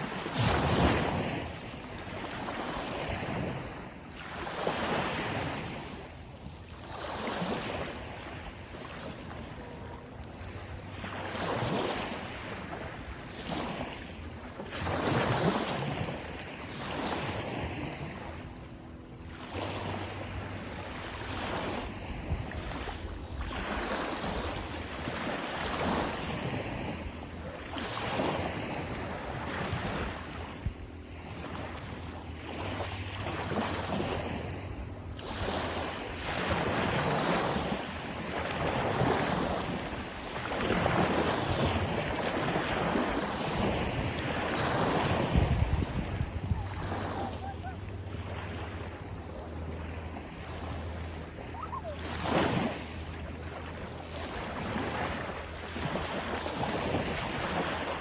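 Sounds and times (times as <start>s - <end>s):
sea waves washing in: 0.0s - 58.0s
low hum: 5.2s - 56.5s.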